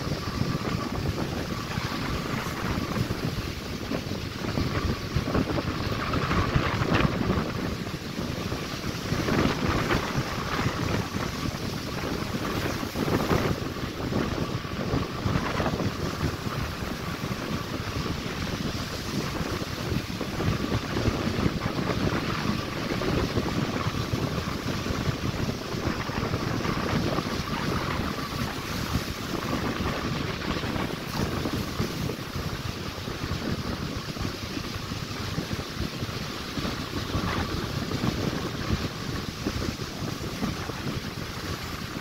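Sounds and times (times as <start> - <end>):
breaking surf: 0.0 - 42.0
wind buffeting microphone: 0.0 - 42.0.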